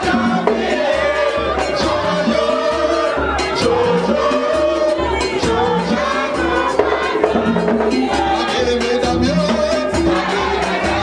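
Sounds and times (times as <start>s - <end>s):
crowd singing along: 0.0s - 11.0s
men singing lead: 0.0s - 11.0s.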